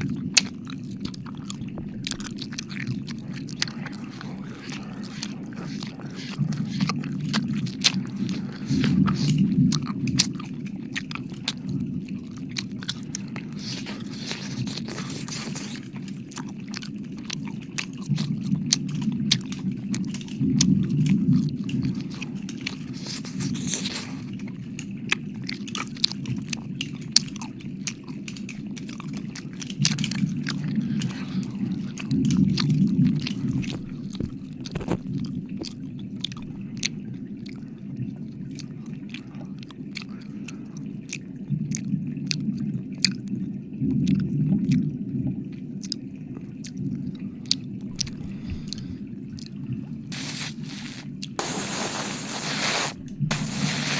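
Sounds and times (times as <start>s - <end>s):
wet mouth licking and smacking: 0.0s - 37.7s, 38.5s - 43.2s, 44.0s - 44.8s, 45.8s - 46.0s, 47.4s - 53.9s.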